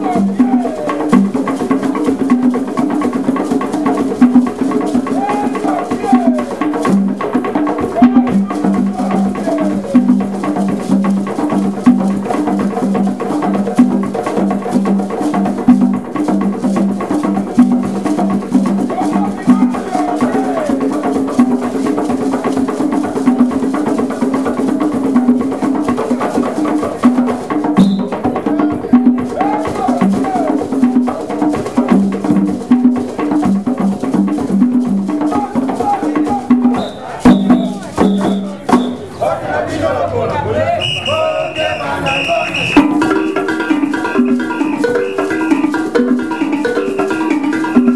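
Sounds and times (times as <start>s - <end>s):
hand drums: 0.0s - 39.2s, 41.5s - 47.9s
drum beaten with sticks: 0.0s - 47.9s.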